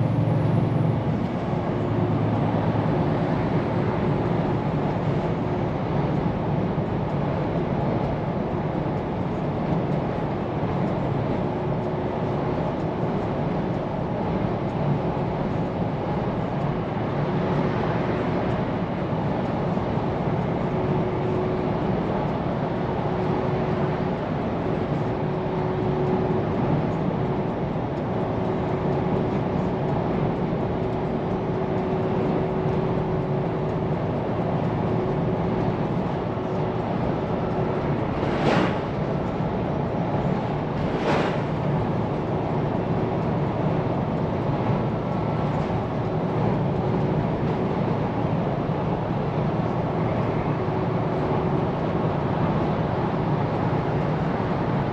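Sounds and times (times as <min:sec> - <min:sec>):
truck engine and road noise: 0:00.0 - 0:54.9.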